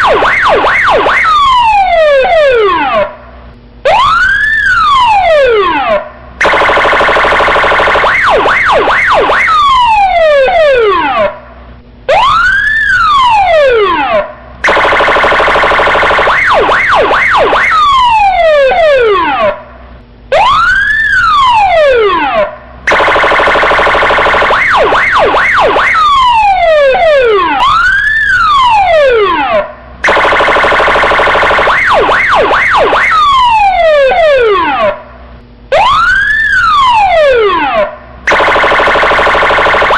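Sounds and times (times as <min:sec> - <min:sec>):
electronic police siren: 0:00.0 - 0:11.5, 0:12.1 - 0:39.9.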